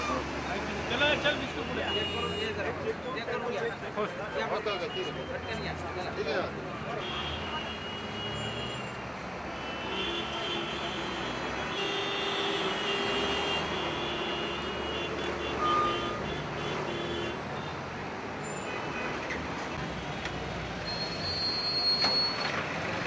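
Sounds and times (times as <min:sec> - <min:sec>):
truck and car engines: 0:00.0 - 0:10.0, 0:12.4 - 0:23.0.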